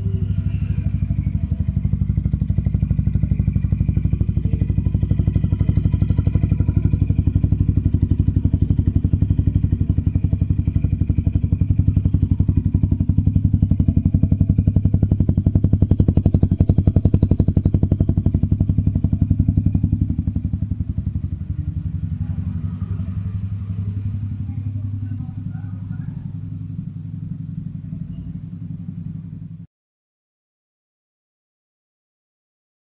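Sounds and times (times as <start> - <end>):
motorcycle engine idling: 0.0 - 29.7.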